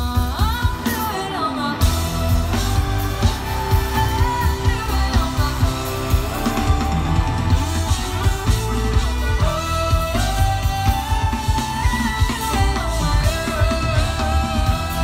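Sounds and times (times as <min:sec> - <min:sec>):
heavy drum and bass beat: 0:00.0 - 0:15.0
live pop band playing: 0:00.0 - 0:15.0
woman singing: 0:00.0 - 0:15.0.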